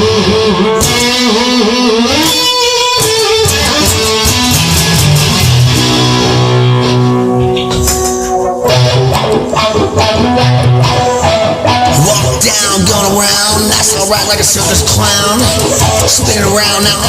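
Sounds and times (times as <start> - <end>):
bass and drums: 0.0 - 17.0
electric guitar lead: 0.0 - 17.0.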